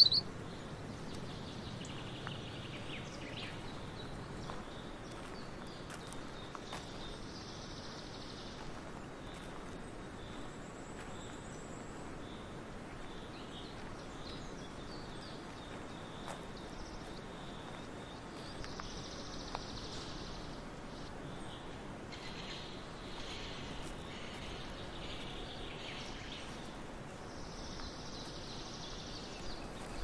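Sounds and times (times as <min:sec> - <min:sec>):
outdoor ambience hiss: 0:00.0 - 0:30.0
small birds chirping: 0:00.0 - 0:30.0.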